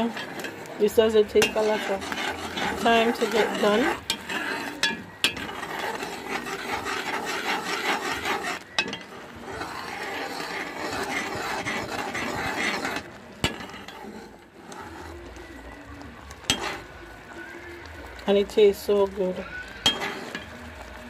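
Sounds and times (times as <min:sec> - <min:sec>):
spoon scraping metal pot: 0:00.0 - 0:15.7, 0:16.3 - 0:17.0, 0:19.5 - 0:20.8.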